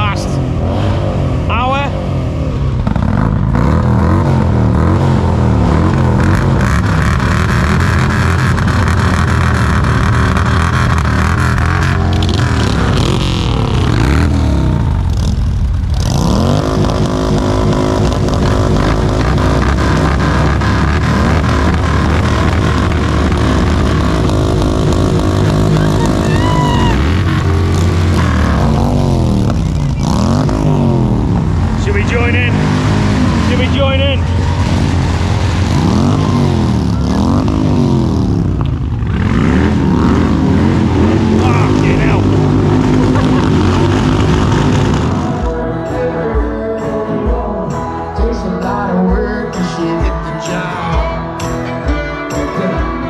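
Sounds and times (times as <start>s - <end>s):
motorcycle engines revving: 0.0s - 53.0s.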